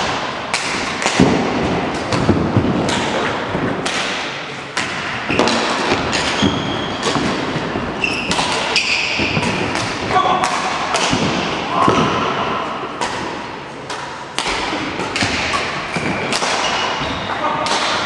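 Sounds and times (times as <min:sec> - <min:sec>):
echoing thuds in sports hall: 0:00.0 - 0:18.0.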